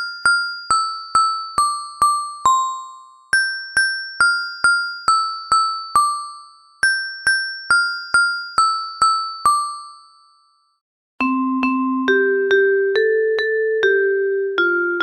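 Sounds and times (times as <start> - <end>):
bell-like tune: 0.0 - 15.0.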